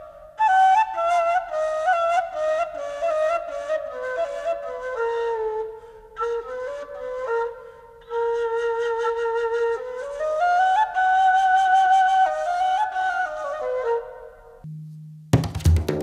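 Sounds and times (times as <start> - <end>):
flute playing slow melody: 0.0 - 14.7.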